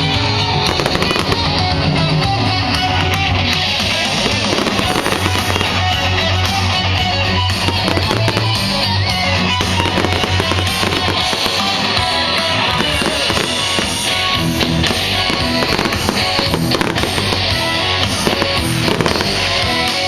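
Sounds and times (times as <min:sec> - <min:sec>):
fireworks bangs and crackles: 0:00.0 - 0:20.0
loud music with bass line: 0:00.0 - 0:20.0.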